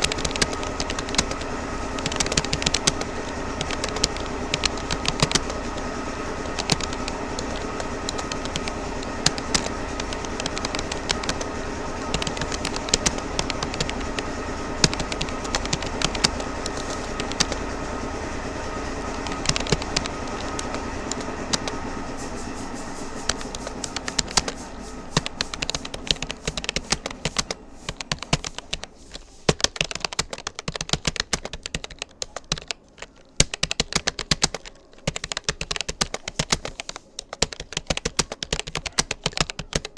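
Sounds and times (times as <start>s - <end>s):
keyboard typing: 0.0s - 39.9s
steady background hum: 0.0s - 39.9s.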